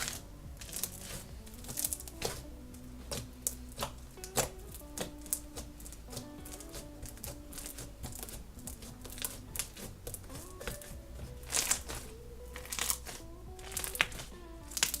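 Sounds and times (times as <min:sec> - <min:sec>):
slime crackling and popping: 0:00.0 - 0:15.0
soft background music: 0:00.0 - 0:15.0.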